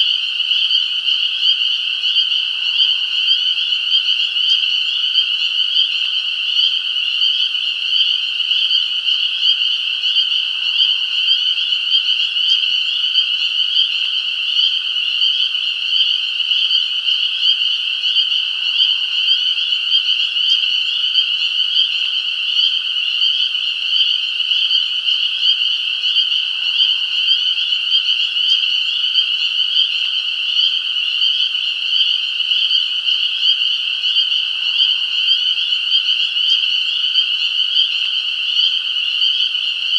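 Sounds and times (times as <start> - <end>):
frogs chorus: 0.0 - 39.9.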